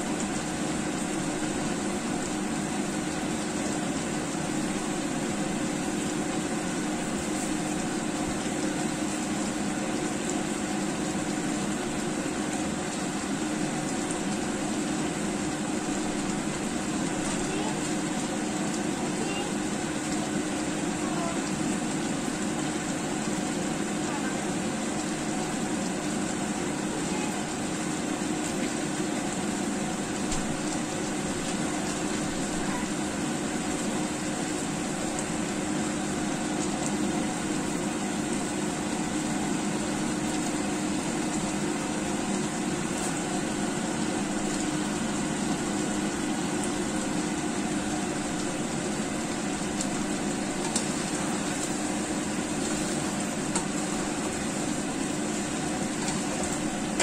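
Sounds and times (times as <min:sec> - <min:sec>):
food sizzling and bubbling in pan: 0:00.0 - 0:57.0.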